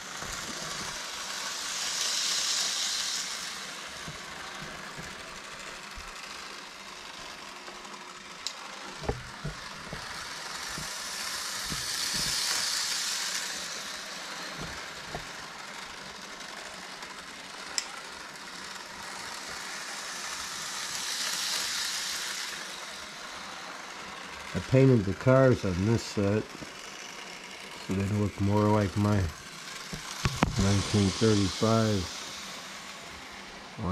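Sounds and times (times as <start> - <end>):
model train motor whirring: 0.0 - 33.9.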